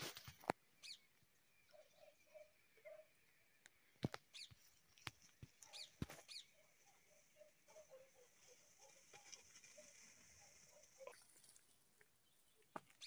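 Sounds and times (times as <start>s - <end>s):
faint bird chirps: 0.4s - 13.0s.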